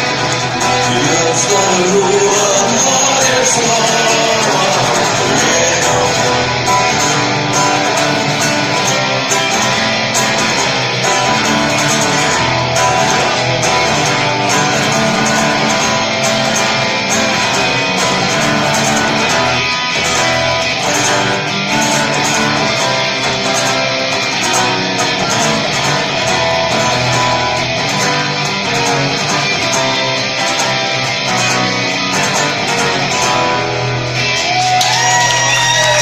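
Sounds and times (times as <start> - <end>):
guitars strumming rock song: 0.0 - 36.0.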